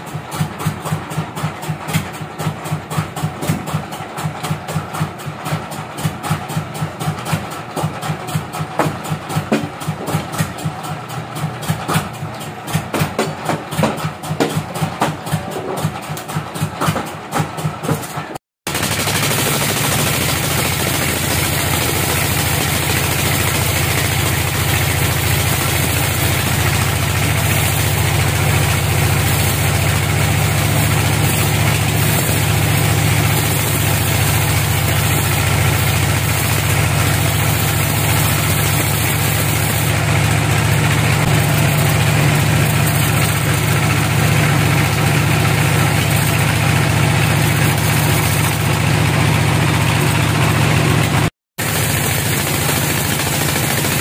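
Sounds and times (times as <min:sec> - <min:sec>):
band sawmill cutting log: 0:00.0 - 0:54.0.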